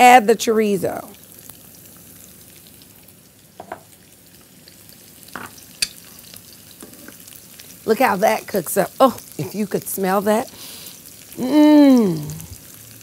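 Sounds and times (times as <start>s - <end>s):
sausage frying in hot oil: 0.0s - 13.0s.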